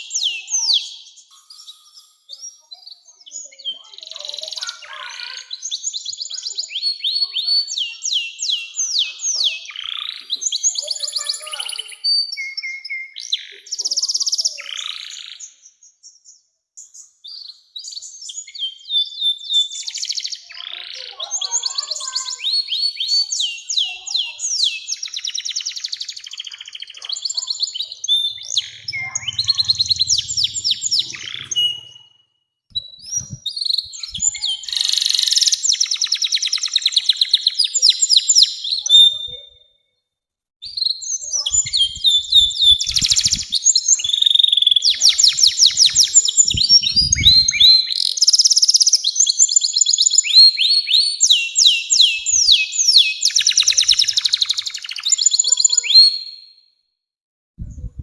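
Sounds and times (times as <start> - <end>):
canary singing trills: 0.0 - 39.8, 40.6 - 56.6.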